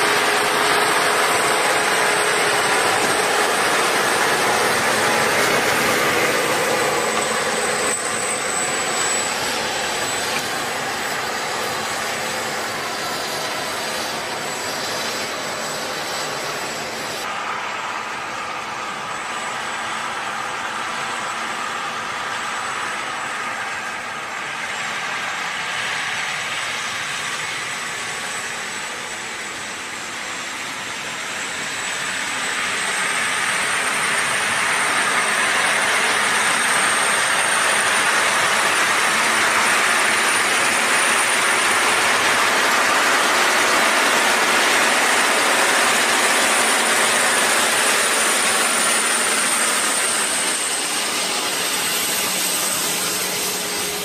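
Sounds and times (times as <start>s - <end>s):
thin high whine: 0.0s - 54.0s
tractor diesel engine under load: 0.0s - 54.0s.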